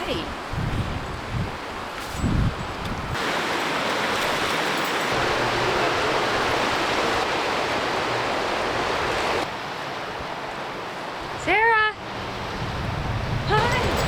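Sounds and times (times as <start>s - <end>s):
river water rushing: 2.6s - 14.0s.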